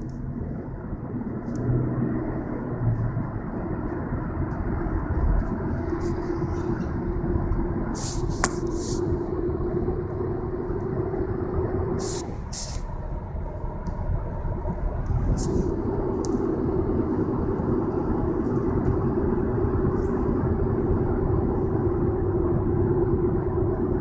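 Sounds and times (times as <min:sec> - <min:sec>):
car tyres humming on road: 0:00.0 - 0:24.0.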